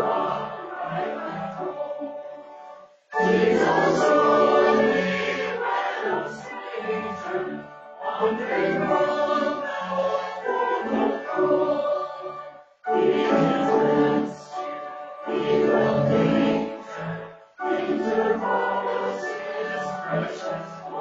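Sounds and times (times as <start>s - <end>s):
congregation and choir singing a hymn: 0.0s - 2.5s, 3.1s - 21.0s.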